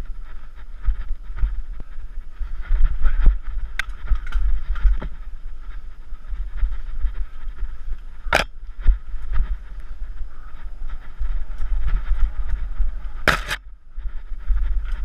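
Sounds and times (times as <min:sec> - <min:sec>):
bike tyre and chassis rattle: 0:00.0 - 0:15.0
wind buffeting microphone: 0:00.0 - 0:15.0.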